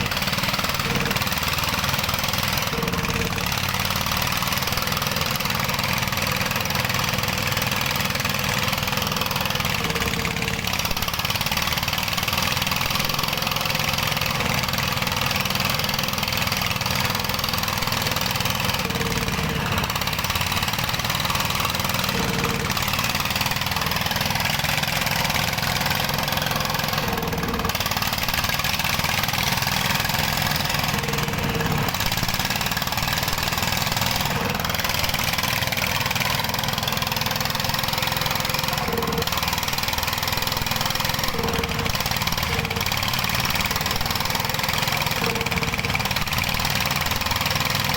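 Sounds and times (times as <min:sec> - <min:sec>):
diesel engine running loudly: 0:00.0 - 0:47.9.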